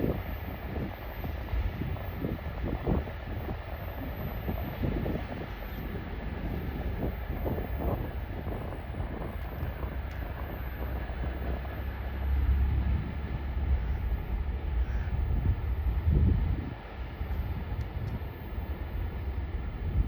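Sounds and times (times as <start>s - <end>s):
freight train rumbling past: 0.0s - 20.0s
wind buffeting microphone: 0.0s - 20.0s.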